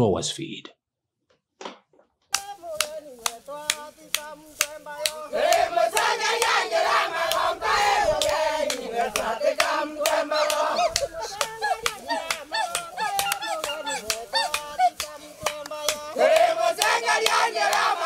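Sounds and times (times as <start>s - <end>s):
hand-clapping: 2.3s - 18.0s
group of voices singing: 2.4s - 18.0s.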